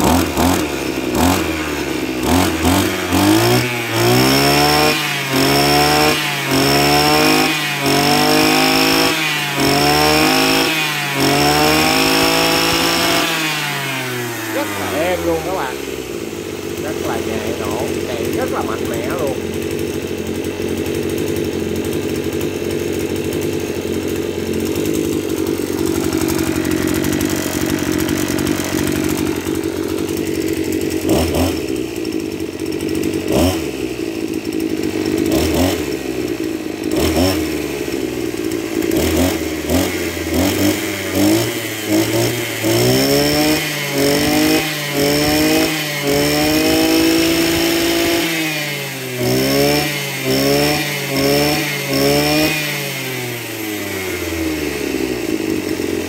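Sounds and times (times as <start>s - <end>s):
brush cutter engine revving: 0.0s - 56.0s.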